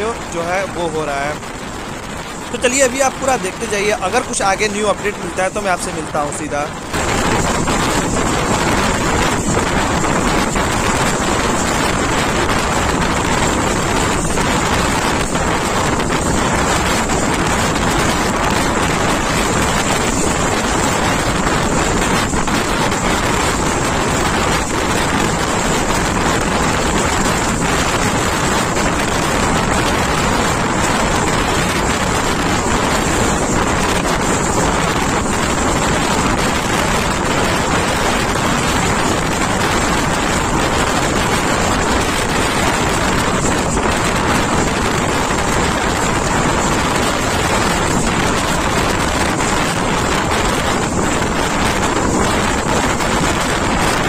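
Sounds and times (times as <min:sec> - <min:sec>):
moving train running noise: 0:00.0 - 0:54.0
wind rushing over microphone: 0:00.0 - 0:54.0.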